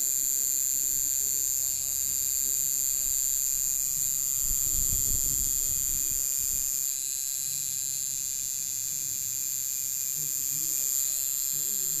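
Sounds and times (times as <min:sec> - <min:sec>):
tattoo machine buzzing: 0:00.0 - 0:12.0.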